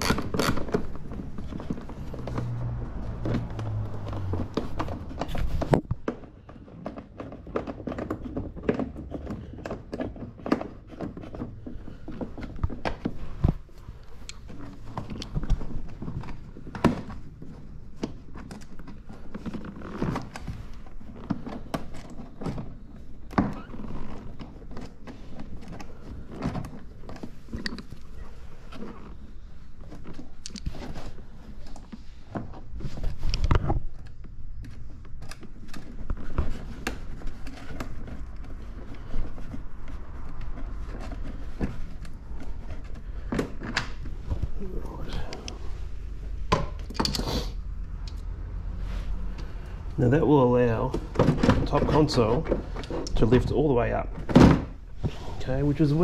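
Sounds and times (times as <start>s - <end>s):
plastic panels being handled: 0.0s - 47.2s, 49.2s - 56.0s.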